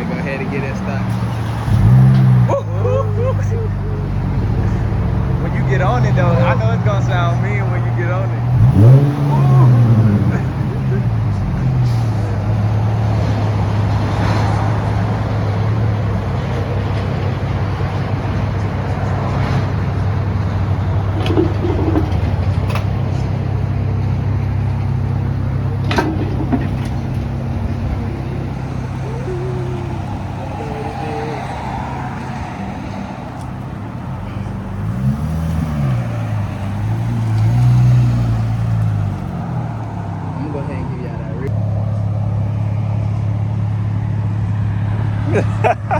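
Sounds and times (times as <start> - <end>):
vehicle exhaust droning: 0.0 - 45.9.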